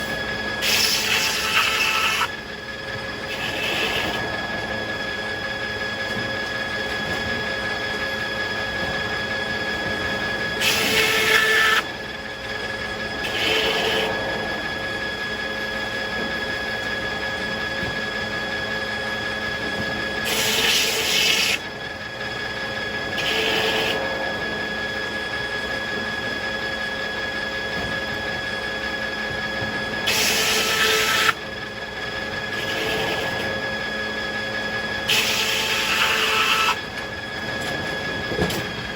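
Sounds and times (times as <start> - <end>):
circular sawmill blade droning: 0.0 - 38.9.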